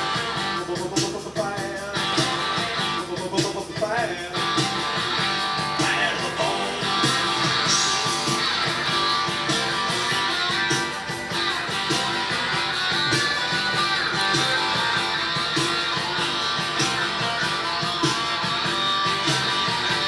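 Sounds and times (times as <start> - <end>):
rock and roll music: 0.0 - 20.0.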